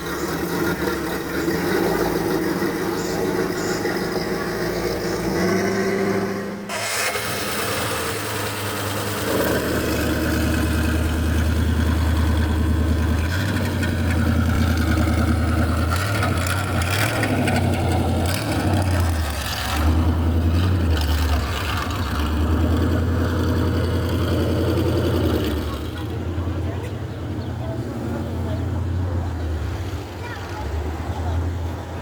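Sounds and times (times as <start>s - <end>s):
car engine humming: 0.0s - 32.0s.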